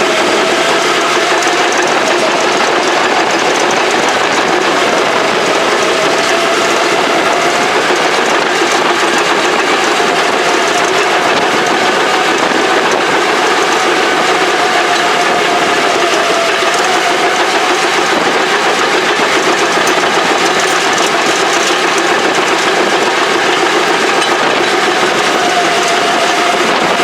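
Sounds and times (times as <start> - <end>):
heavy machine engine running: 0.0 - 27.0
wavering engine whine: 0.0 - 27.0.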